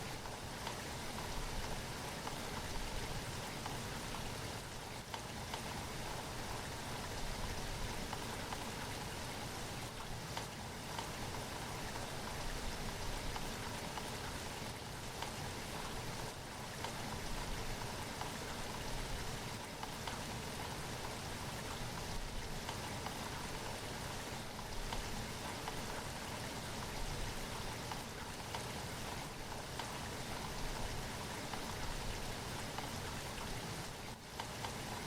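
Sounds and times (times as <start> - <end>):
steady rainfall: 0.0 - 35.0.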